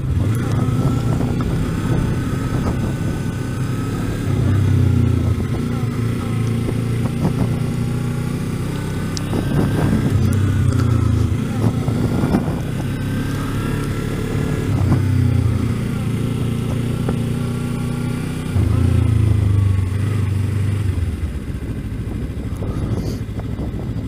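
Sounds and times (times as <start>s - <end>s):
motorcycle engine at low revs: 0.0s - 24.0s.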